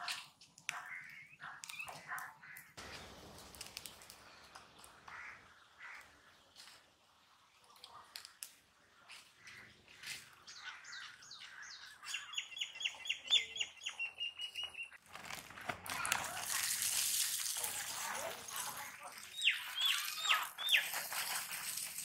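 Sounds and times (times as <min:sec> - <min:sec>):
birds chirping: 0:00.1 - 0:15.0, 0:18.8 - 0:21.5.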